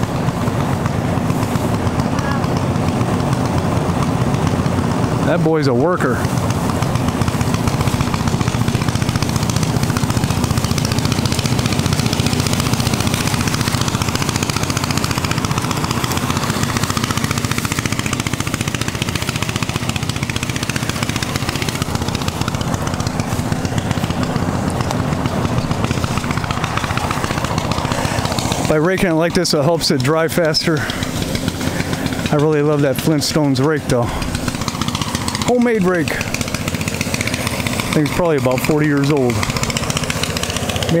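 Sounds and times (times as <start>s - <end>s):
small engine chugging: 0.0s - 41.0s.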